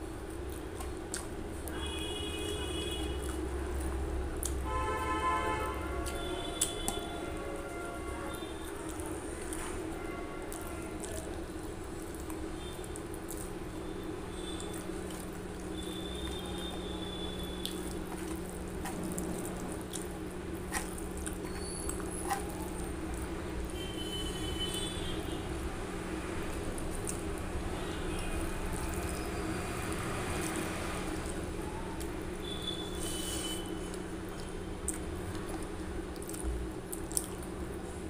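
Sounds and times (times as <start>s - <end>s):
hand squishing rice and curry: 0.0s - 38.0s.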